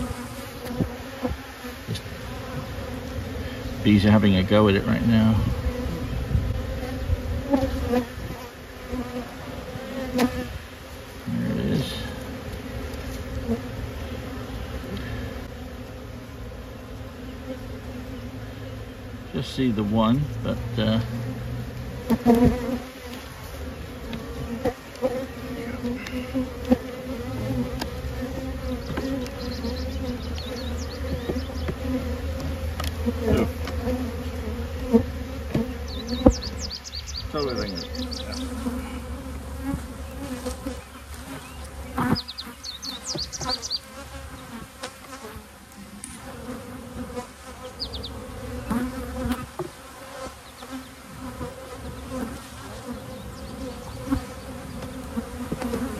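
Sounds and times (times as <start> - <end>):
bees buzzing: 0.0 - 55.9.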